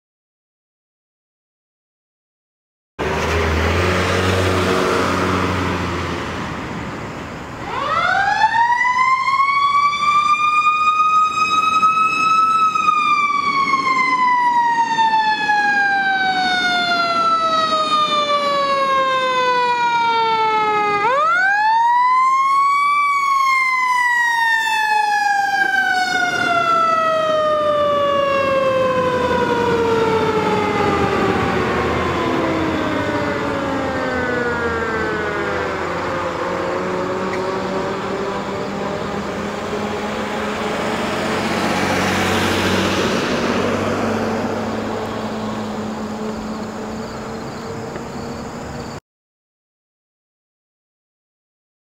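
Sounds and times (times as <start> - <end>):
truck engine: 3.0 - 9.5, 10.2 - 49.0
road noise: 3.0 - 49.0.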